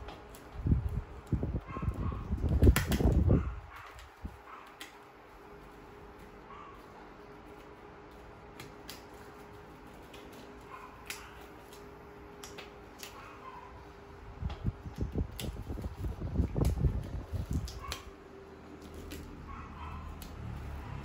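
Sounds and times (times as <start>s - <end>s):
fan-like hum: 0.0s - 21.0s.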